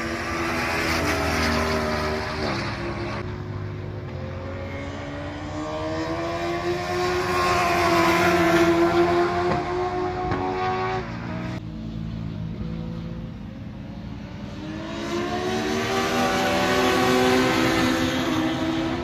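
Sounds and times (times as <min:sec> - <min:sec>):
racing motorcycle engines revving: 0:00.0 - 0:19.0.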